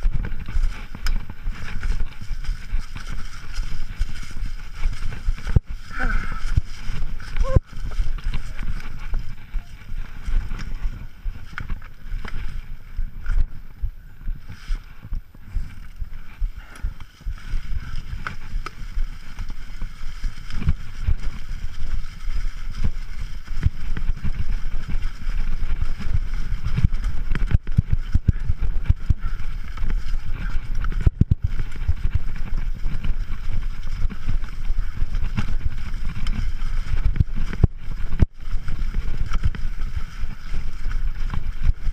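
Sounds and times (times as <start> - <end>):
bike knocking and rattling: 0.0 - 41.9
bike tyres rumbling on dirt trail: 0.0 - 41.9.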